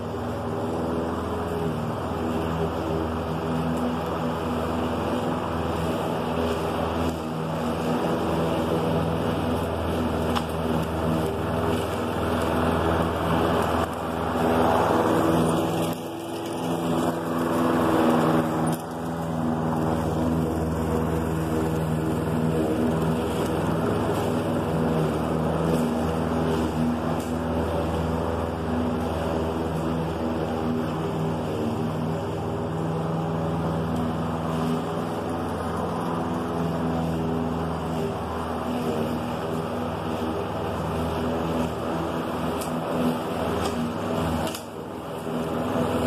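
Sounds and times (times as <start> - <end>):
lawn mower engine running: 0.0 - 46.0.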